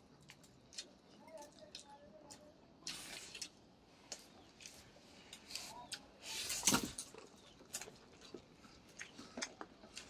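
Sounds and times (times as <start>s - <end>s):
mouth chewing food: 0.0s - 6.1s, 7.1s - 10.0s.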